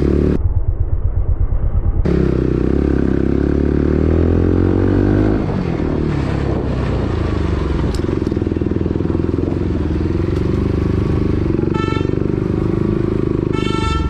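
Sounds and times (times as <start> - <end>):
motorcycle engine pulling away: 1.4 - 13.6.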